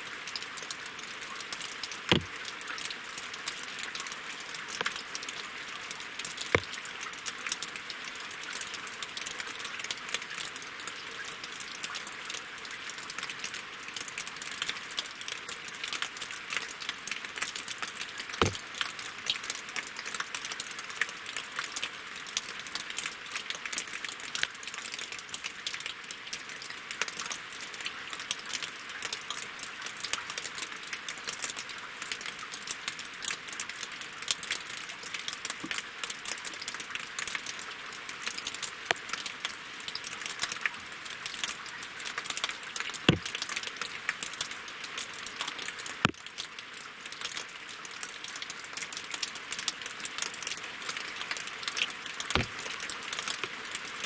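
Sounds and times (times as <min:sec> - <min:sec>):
rain pattering on lake: 0:00.0 - 0:54.0.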